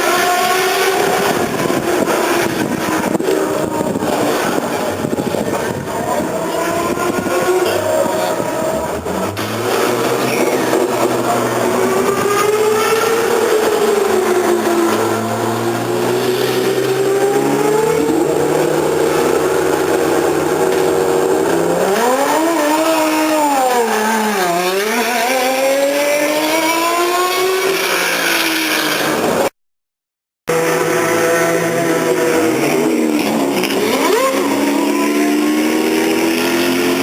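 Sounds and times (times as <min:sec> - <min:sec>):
racing car engines revving: 0:00.0 - 0:29.5, 0:30.5 - 0:37.0.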